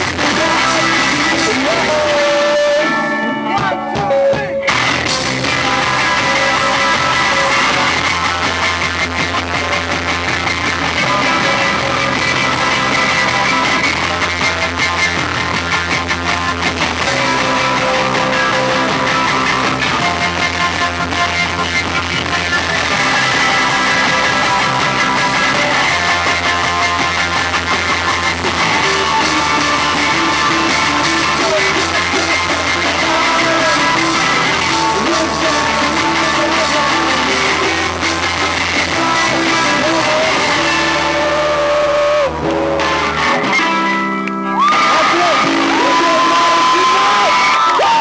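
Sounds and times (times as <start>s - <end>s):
distorted live rock band: 0.0s - 48.0s.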